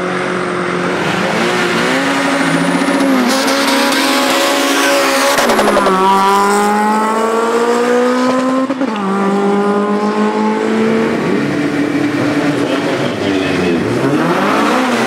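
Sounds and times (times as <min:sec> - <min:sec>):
drag racing cars at full throttle: 0:00.0 - 0:15.0.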